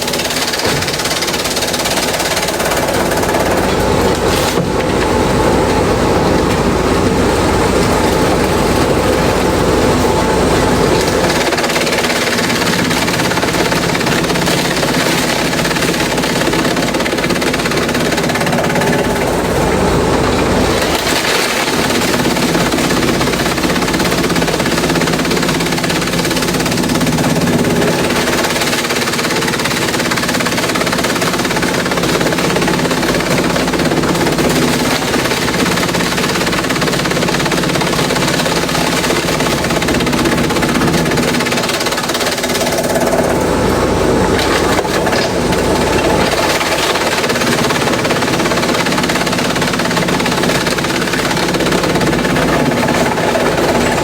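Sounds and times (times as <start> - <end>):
shredder grinding and rattling: 0.0 - 54.0.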